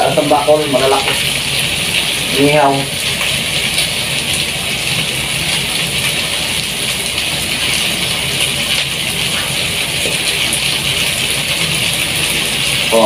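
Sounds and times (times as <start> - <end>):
pot sizzling on stove: 0.0 - 13.0.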